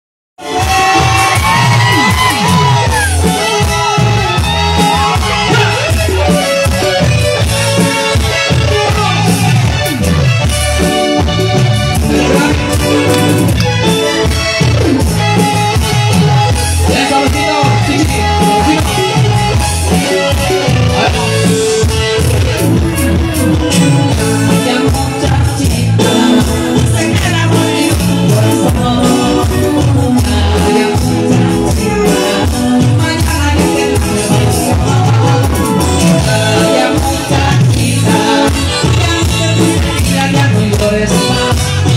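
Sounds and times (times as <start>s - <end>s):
live band playing latin music: 0.4s - 41.9s
moving bass line: 0.4s - 41.9s.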